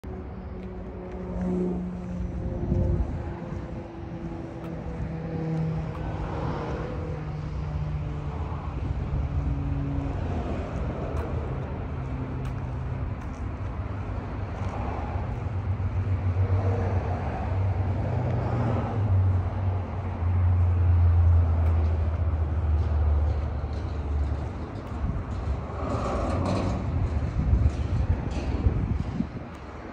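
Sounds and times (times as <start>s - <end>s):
vehicle engine humming: 0.0s - 29.9s.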